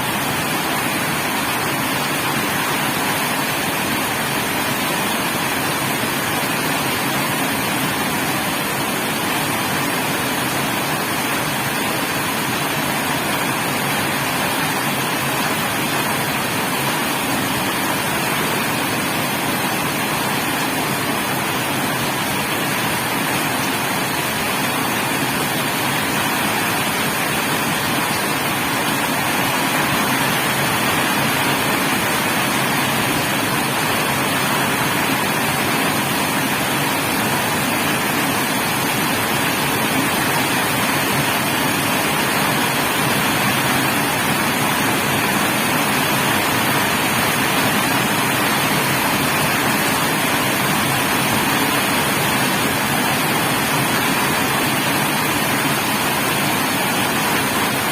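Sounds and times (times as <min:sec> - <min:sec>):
heavy rain: 0:00.0 - 0:57.9.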